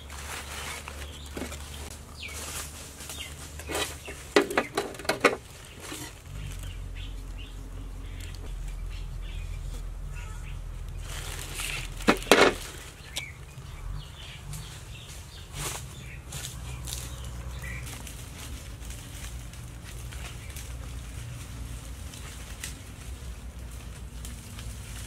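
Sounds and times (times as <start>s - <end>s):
dry leaves rustling: 0.0s - 25.0s
steady low rumble: 0.0s - 25.0s.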